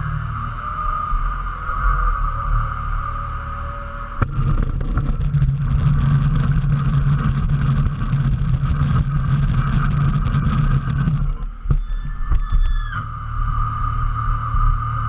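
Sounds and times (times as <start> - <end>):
high-pitched whine: 0.0 - 15.0
tow tug engine drone: 0.0 - 15.0.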